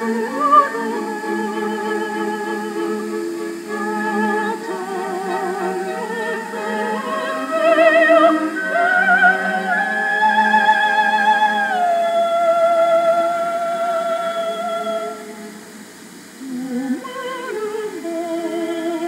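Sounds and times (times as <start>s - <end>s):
operatic singing with vibrato: 0.0s - 19.0s
sustained accompaniment: 0.0s - 19.0s.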